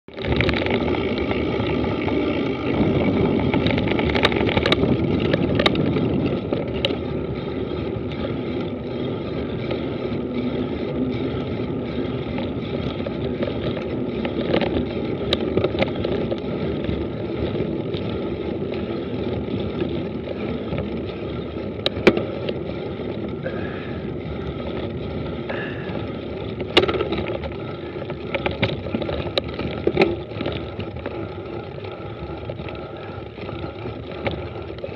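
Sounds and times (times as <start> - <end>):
bike knocks and rattles on bumps: 0.1 - 34.9
bike tyre and air rush: 0.2 - 34.9.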